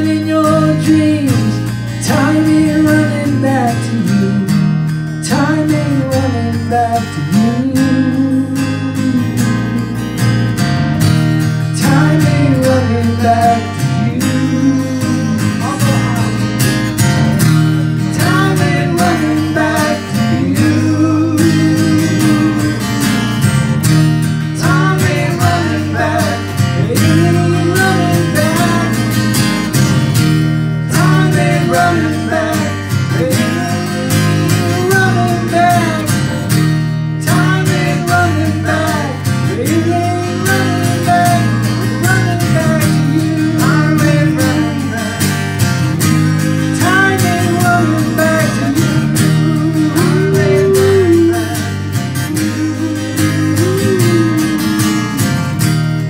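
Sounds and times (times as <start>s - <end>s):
person singing: 0.0s - 4.6s, 5.3s - 9.9s, 11.8s - 16.5s, 18.1s - 23.3s, 24.6s - 29.2s, 30.9s - 36.5s, 37.2s - 45.2s, 46.8s - 55.6s
electric bass: 0.0s - 56.0s
strummed acoustic guitar: 0.0s - 56.0s.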